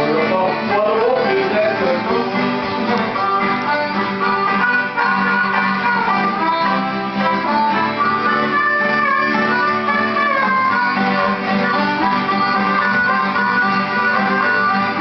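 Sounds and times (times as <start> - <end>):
acoustic guitar: 0.0 - 15.0
fiddle melody: 0.0 - 15.0
upright bass: 0.0 - 15.0.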